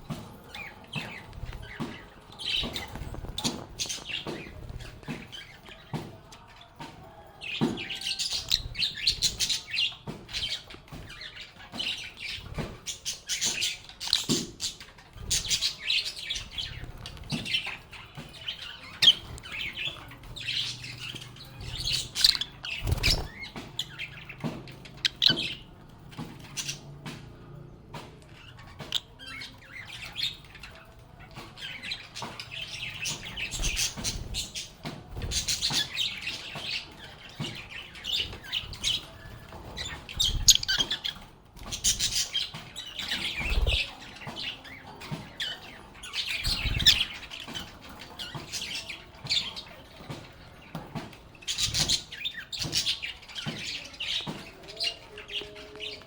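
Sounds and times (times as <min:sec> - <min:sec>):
birds chattering and chirping: 0:00.0 - 0:56.0.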